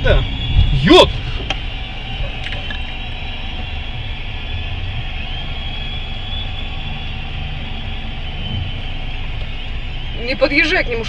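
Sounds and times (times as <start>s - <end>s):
car engine rumble: 0.0s - 11.0s
street traffic: 0.0s - 11.0s.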